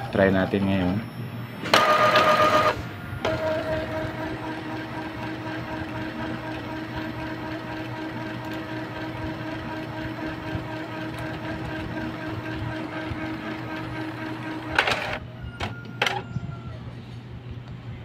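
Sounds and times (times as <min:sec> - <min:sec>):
printer motor whirring: 0:00.0 - 0:16.4.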